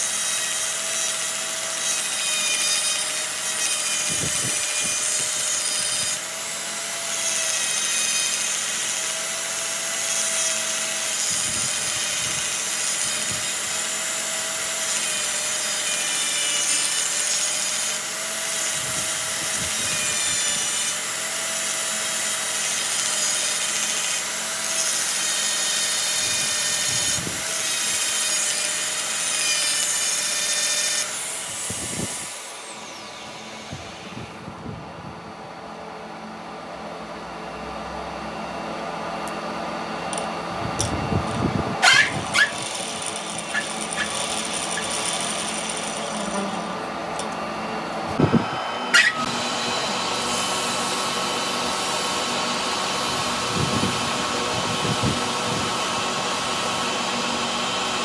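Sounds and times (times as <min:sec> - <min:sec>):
metal screeching being cut: 0:00.0 - 0:34.7, 0:39.9 - 0:58.0
power tool motor: 0:00.0 - 0:35.1, 0:39.2 - 0:58.0.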